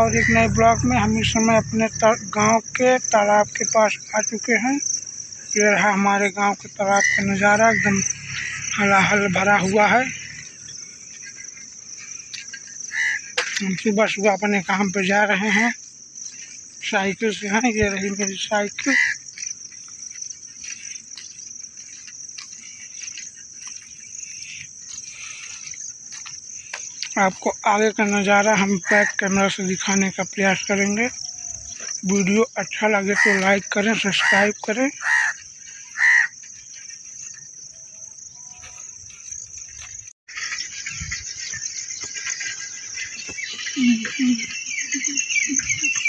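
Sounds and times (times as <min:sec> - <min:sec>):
high-pitched insect chorus trilling: 0:00.0 - 0:46.0.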